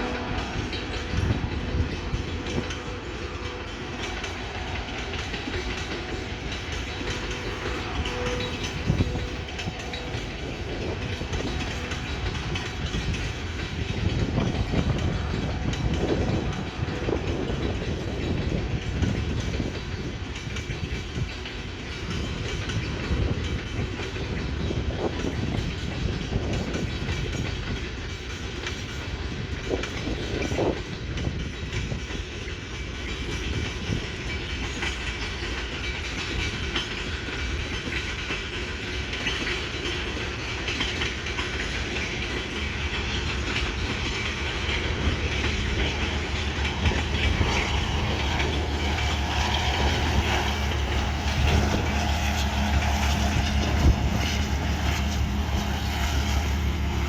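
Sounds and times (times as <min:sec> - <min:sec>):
train rumbling on rails: 0:00.0 - 0:57.0
wheels clacking over rail joints: 0:00.0 - 0:57.0.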